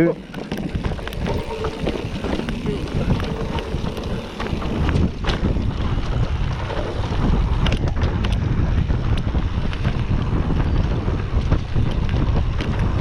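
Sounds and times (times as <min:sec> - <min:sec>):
bike clicks and rattles: 0:00.0 - 0:13.0
wind rushing over microphone: 0:00.0 - 0:13.0.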